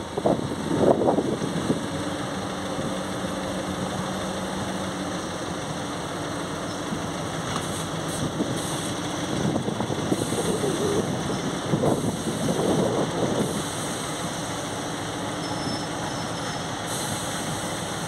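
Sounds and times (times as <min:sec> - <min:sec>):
diesel locomotive idling: 0:00.0 - 0:18.0.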